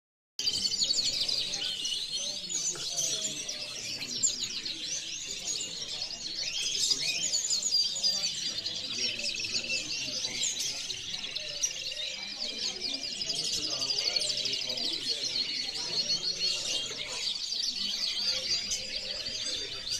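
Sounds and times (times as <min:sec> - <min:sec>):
canaries singing: 0:00.4 - 0:19.9.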